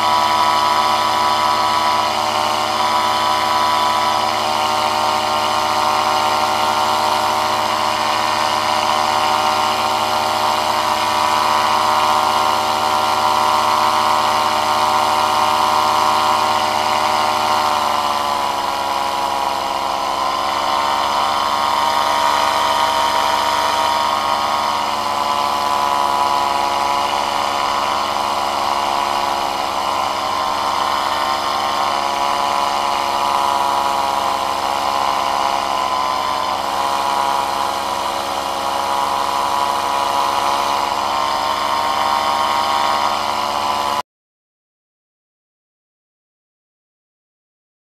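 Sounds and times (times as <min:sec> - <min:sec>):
propeller aircraft engine in flight: 0:00.0 - 0:44.0.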